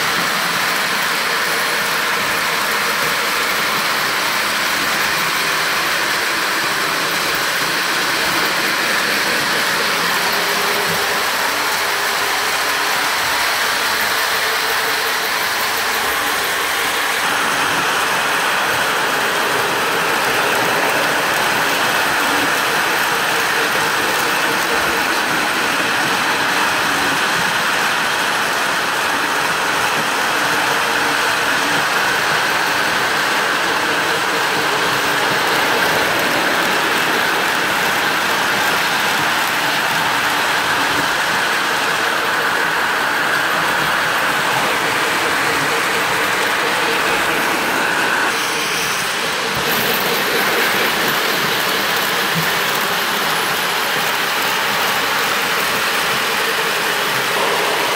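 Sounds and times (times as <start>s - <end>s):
metal wheels rattling on rails: 0.0s - 57.9s
model train motors whirring: 0.0s - 57.9s.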